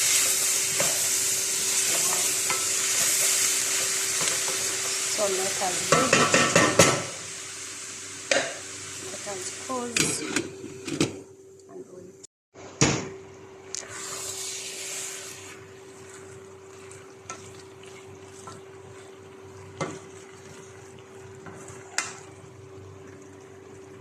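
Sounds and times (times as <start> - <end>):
pot hissing and sizzling: 0.0 - 10.8, 13.7 - 24.0.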